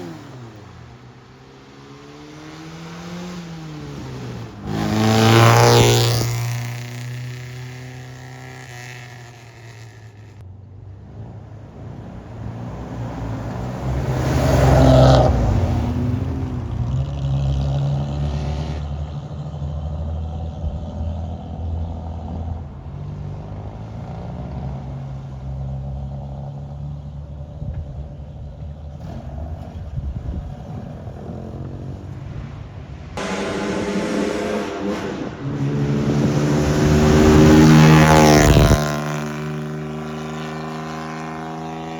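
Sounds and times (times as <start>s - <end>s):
car engines driving past: 0.0s - 41.9s.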